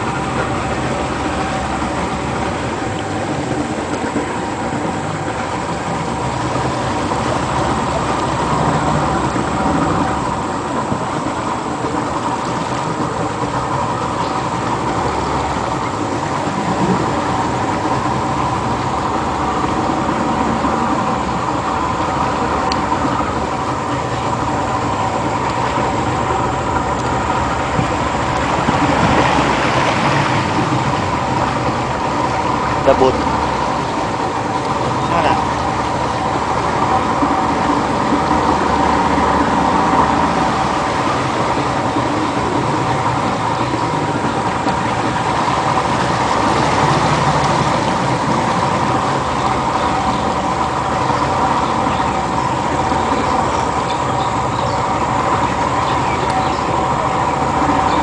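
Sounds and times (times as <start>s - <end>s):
engine droning steadily: 0.0s - 58.0s.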